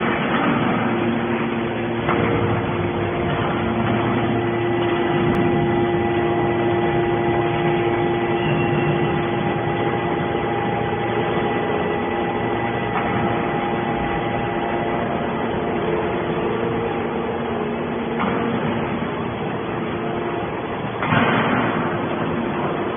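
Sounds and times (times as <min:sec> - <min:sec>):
machine drone: 0:00.0 - 0:22.9
steady tones: 0:00.0 - 0:22.9.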